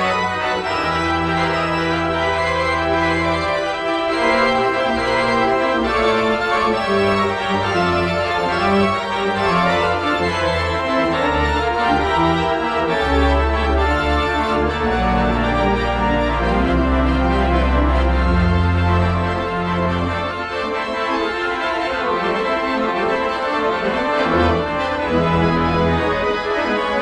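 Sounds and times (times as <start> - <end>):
organ-like keyboard music: 0.0 - 27.0.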